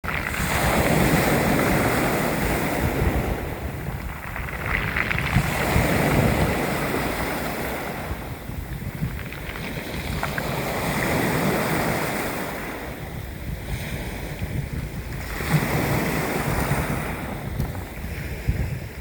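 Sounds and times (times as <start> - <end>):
sea waves washing onto shore: 0.0 - 19.0
wind rumble on microphone: 0.0 - 19.0.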